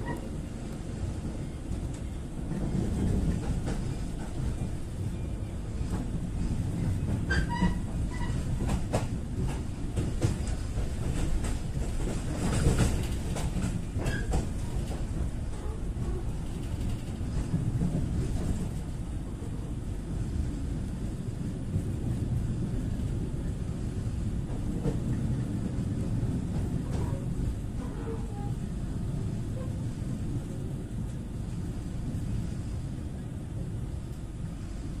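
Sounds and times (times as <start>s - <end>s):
train wheels rumbling on track: 0.0s - 35.0s.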